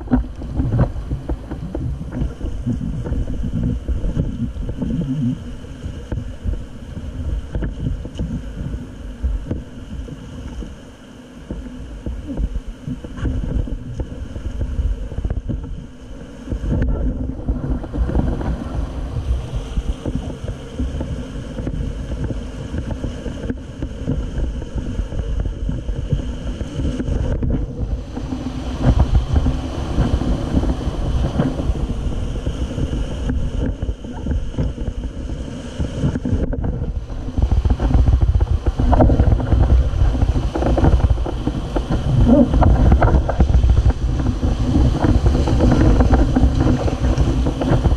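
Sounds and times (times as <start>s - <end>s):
rushing whitewater: 0.0s - 47.9s
wind buffeting microphone: 0.0s - 47.9s.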